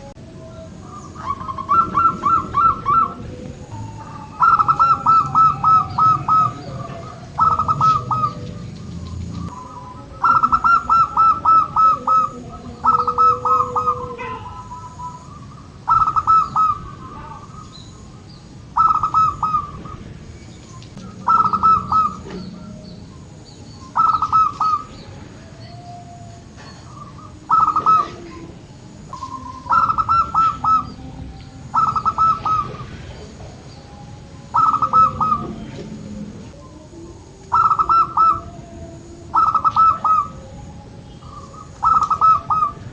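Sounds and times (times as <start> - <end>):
dove cooing: 0.0 - 42.9.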